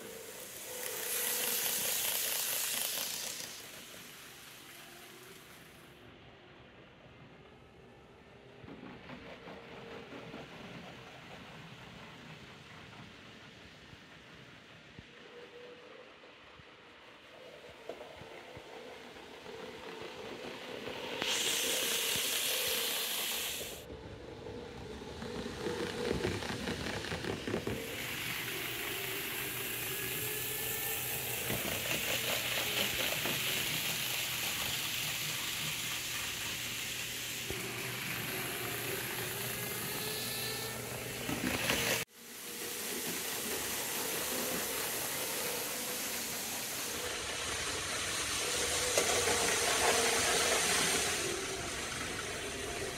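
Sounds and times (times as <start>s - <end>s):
model train whirring on track: 0.0s - 52.9s.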